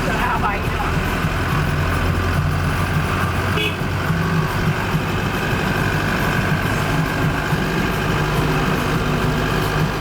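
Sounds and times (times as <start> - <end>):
vehicle engine hum and road noise: 0.0 - 10.0.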